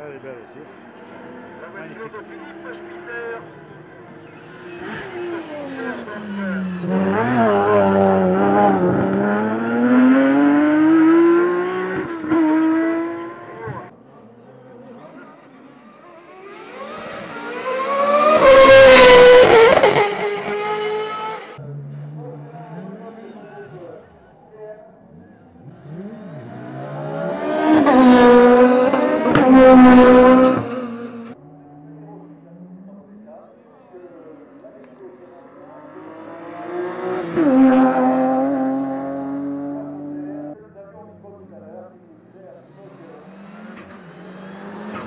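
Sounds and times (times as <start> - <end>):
race car engine accelerating: 1.0 - 13.9, 14.8 - 23.8, 25.1 - 31.4, 35.1 - 40.6, 42.6 - 45.0.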